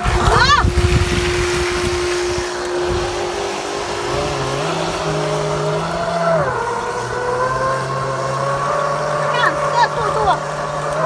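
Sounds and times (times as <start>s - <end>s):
churned water wash: 0.0s - 11.0s
small boat motor running: 0.0s - 11.0s.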